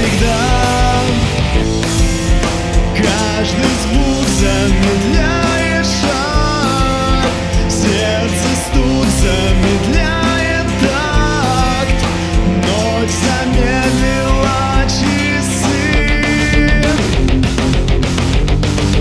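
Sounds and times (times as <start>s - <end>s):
rock music with electric guitars: 0.0s - 19.0s.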